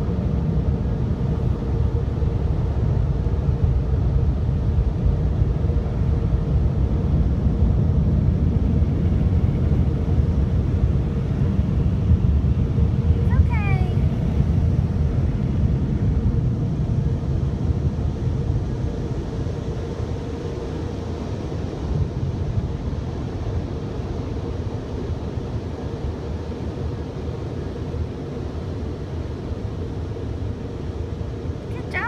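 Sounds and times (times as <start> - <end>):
faint constant hum: 0.0 - 32.0.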